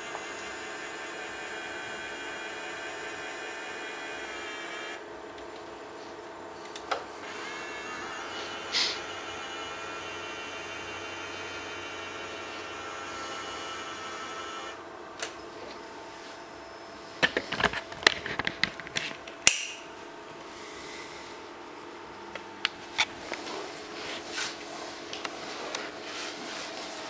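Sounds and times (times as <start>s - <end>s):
projector cooling fan whirring: 0.0s - 27.0s.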